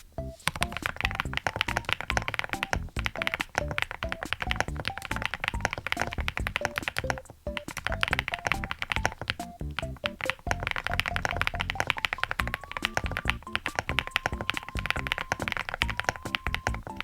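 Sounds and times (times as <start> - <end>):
simple melody of short notes: 0.2 - 17.0.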